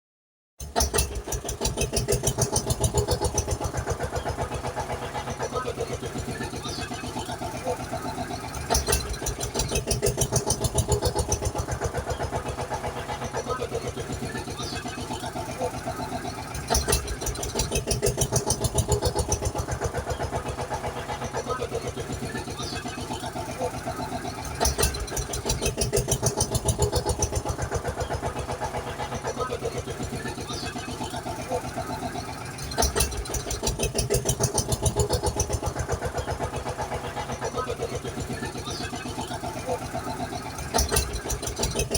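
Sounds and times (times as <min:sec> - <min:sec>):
engine starting and running: 0:00.6 - 0:41.9.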